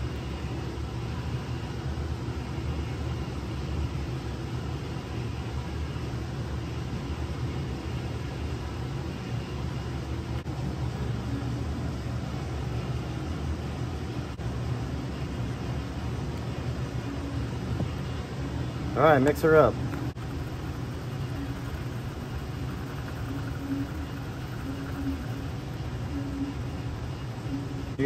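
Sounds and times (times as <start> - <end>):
low room rumble: 0.0 - 28.0.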